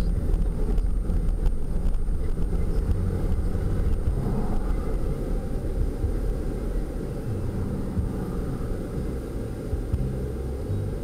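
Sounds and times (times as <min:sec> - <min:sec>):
van engine and tyre rumble: 0:00.0 - 0:11.0.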